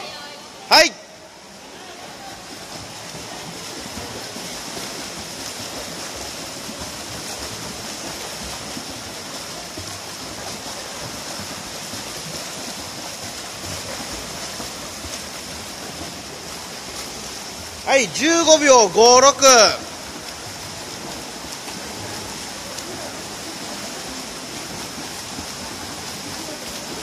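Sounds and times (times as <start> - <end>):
swimmers splashing water: 0.0 - 27.0.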